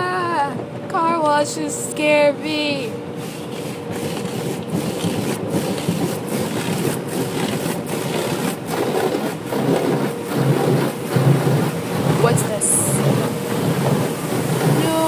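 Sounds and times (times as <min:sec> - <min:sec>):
car wash water rushing: 0:01.2 - 0:15.0.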